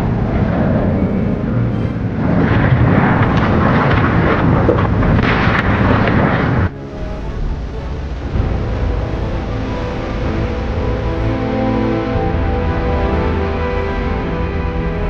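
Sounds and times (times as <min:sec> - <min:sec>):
loud steady rushing noise: 0:00.0 - 0:15.0
music with held tones: 0:00.0 - 0:15.0.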